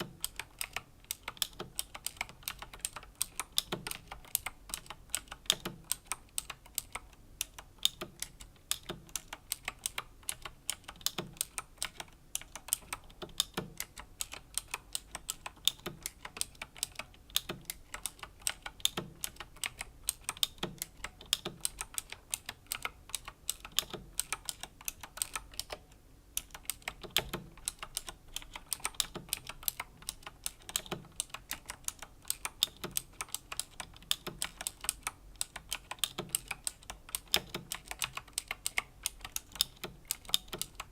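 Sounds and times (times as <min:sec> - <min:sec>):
mechanical keyboard key clicks: 0:00.0 - 0:25.8, 0:26.4 - 0:40.9.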